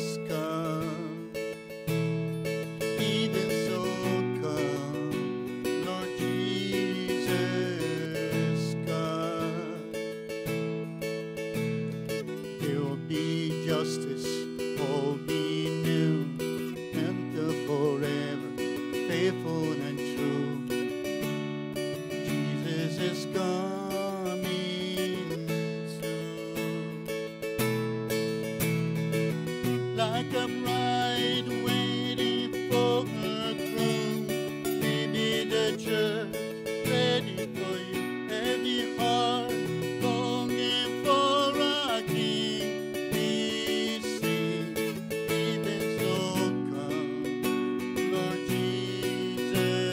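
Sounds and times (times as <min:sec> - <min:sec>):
acoustic guitar strummed: 0:00.0 - 0:49.9
man singing: 0:00.0 - 0:49.9.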